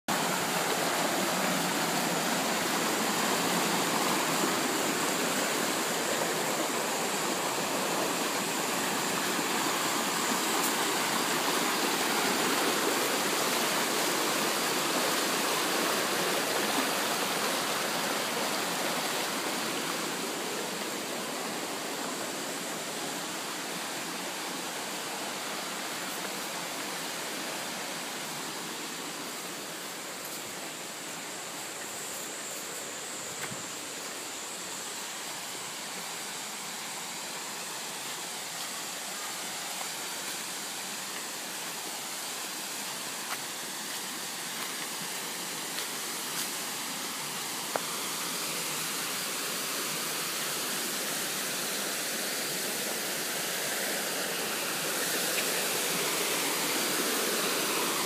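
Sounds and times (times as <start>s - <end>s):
waterfall rushing over rocks: 0.1s - 58.0s.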